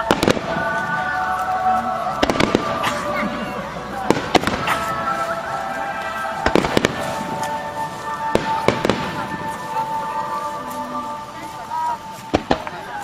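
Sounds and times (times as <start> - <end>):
fireworks bursting: 0.0 - 1.2, 2.1 - 10.7, 12.0 - 13.0
music playing: 0.0 - 13.0.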